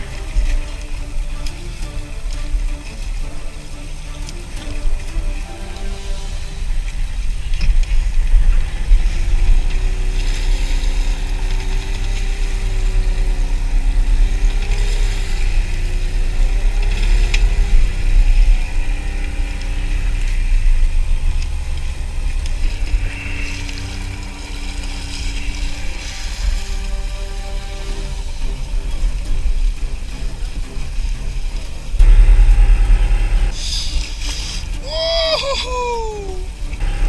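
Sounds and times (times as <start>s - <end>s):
boat engine rumbling: 0.0s - 37.0s.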